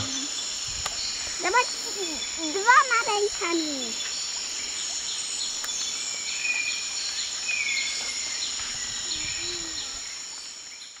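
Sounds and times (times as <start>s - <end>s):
background hiss: 0.0s - 11.0s
birds chirping: 0.0s - 11.0s.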